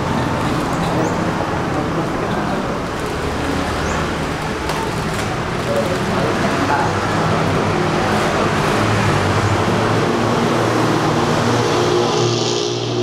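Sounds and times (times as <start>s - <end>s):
road traffic engines: 0.0s - 13.0s.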